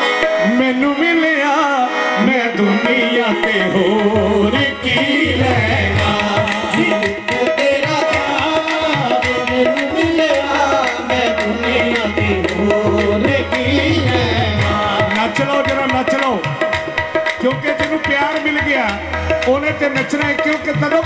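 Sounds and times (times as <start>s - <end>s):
harmoniums playing melody: 0.0s - 21.0s
tabla rhythm: 0.0s - 21.0s.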